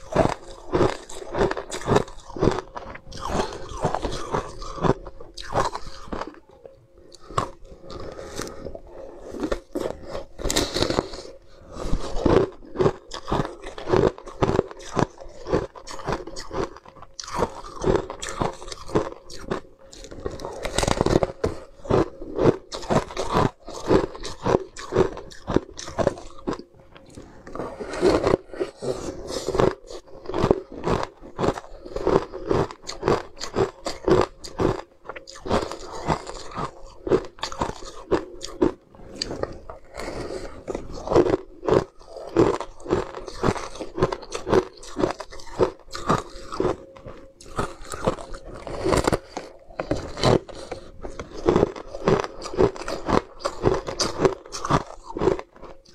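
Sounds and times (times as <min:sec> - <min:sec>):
ice crunching between teeth: 0:00.0 - 0:55.9.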